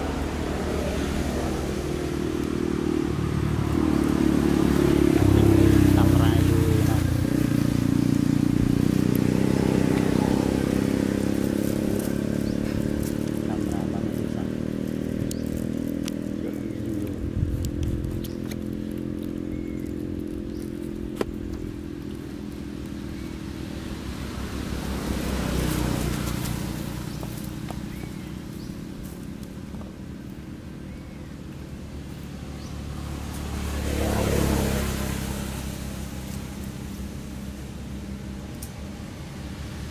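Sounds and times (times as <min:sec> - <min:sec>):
vehicle engines passing: 0:00.0 - 0:39.9.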